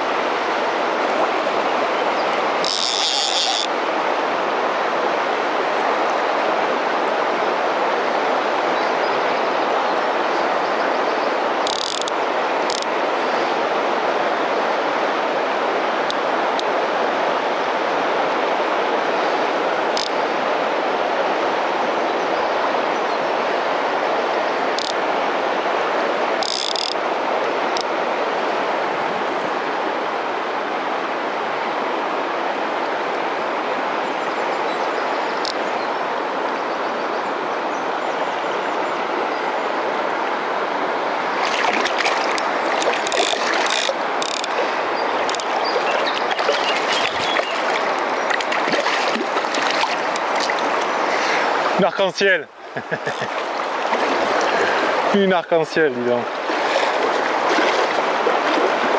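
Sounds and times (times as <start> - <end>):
fast river current rushing: 0.0 - 58.9.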